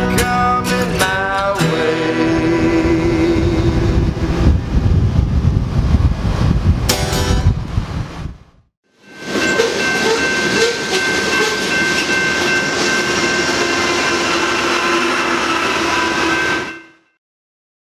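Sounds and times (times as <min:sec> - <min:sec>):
train rumbling past: 0:00.7 - 0:08.4, 0:09.0 - 0:16.8.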